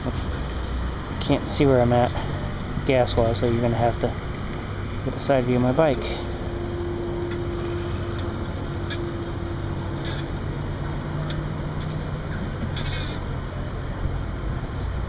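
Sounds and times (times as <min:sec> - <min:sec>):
fuel pump humming: 0:00.0 - 0:15.0
fuel rushing: 0:00.0 - 0:15.0.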